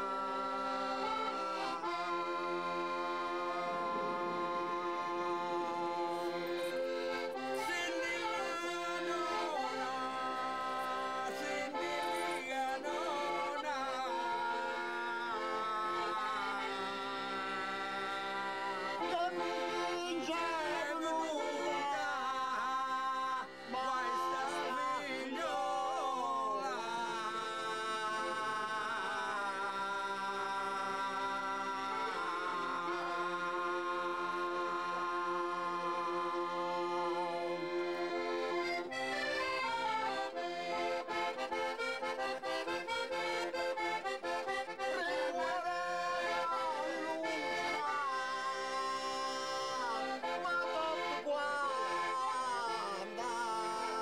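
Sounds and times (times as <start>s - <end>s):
accordion folk tune: 0.0s - 54.0s.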